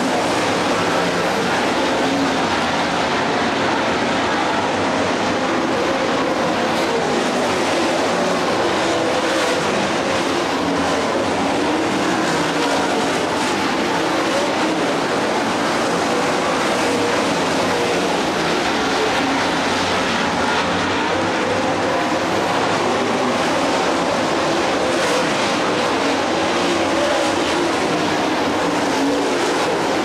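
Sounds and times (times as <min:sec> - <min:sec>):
race car engines roaring: 0:00.0 - 0:30.0.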